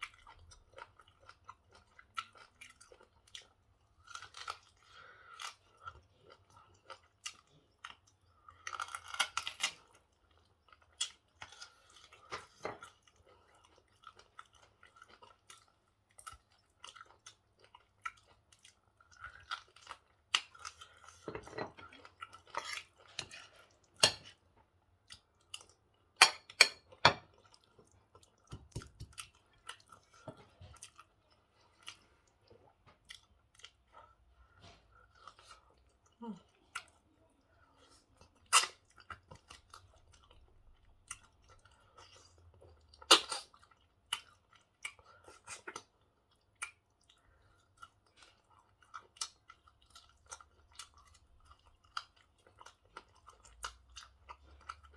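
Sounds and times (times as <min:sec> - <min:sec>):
wet chewing and mouth smacks: 0:00.0 - 0:54.9.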